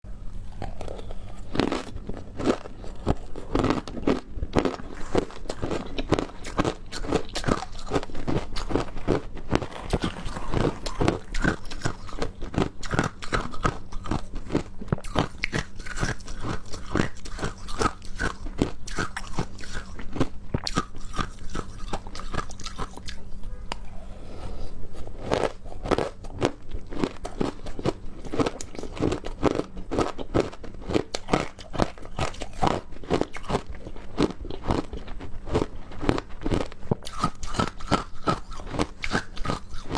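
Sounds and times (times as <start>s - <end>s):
biting and crunching ice: 0.4s - 23.2s, 25.2s - 39.9s.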